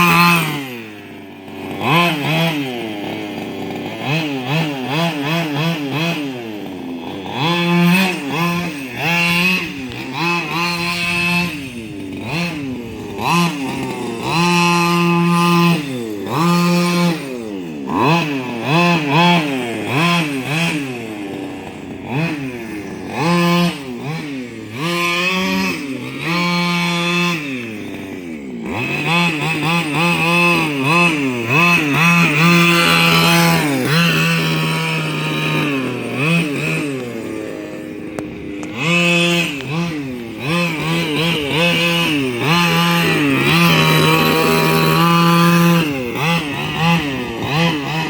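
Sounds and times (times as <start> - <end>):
two-stroke engine revving: 0.0 - 48.0.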